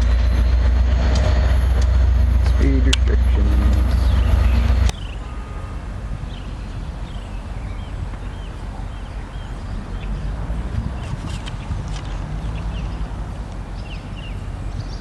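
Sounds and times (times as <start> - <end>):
low outdoor rumble: 0.0 - 15.0
songbirds chirping: 0.0 - 15.0.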